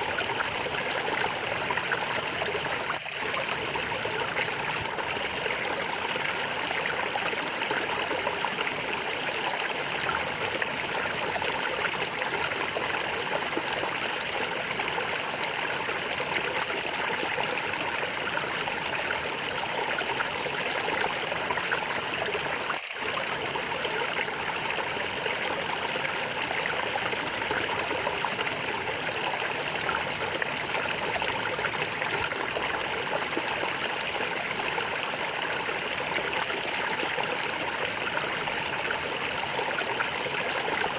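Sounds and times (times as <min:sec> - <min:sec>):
water gurgling and trickling: 0:00.0 - 0:40.9.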